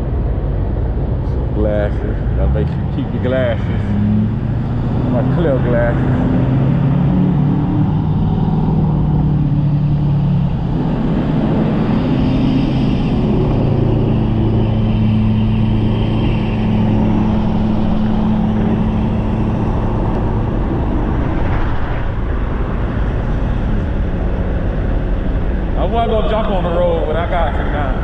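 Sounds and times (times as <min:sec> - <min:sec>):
engine humming: 0:00.0 - 0:28.0
wind on microphone: 0:00.0 - 0:28.0.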